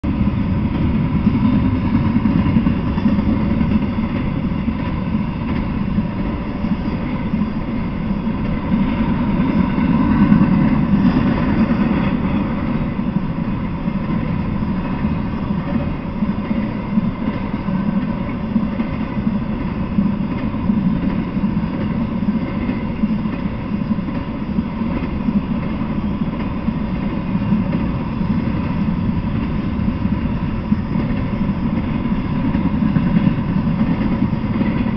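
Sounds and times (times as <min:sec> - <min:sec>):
freight train wheels rumbling on rails: 0:00.0 - 0:34.9.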